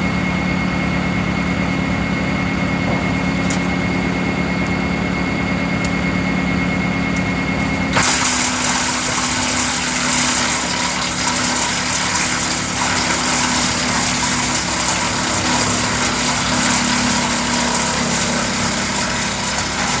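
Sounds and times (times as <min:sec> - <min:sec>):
tractor engine running wood chipper: 0:00.0 - 0:20.0.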